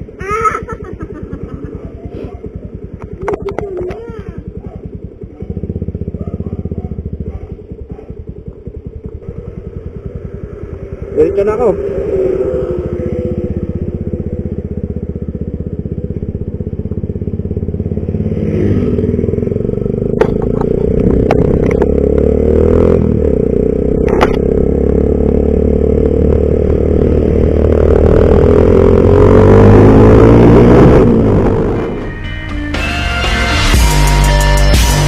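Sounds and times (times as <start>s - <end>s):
scooter engine accelerating: 0.0s - 35.0s.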